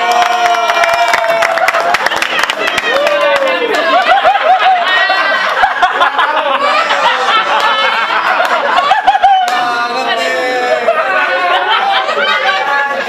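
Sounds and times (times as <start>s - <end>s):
people laughing and talking: 1.2s - 13.0s.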